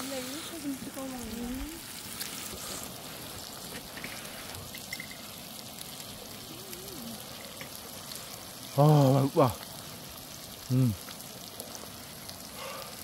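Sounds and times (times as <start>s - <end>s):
food sizzling on a griddle: 0.0s - 13.0s
small crackles: 0.0s - 13.0s.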